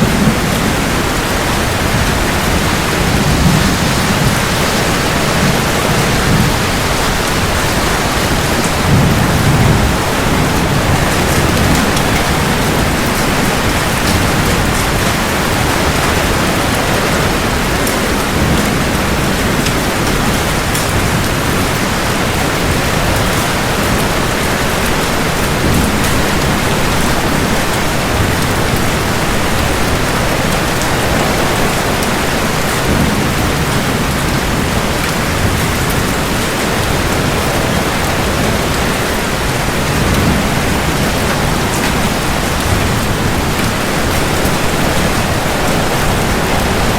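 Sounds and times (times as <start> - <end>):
heavy rain: 0.0 - 46.9
thunder rumbling: 0.0 - 46.9.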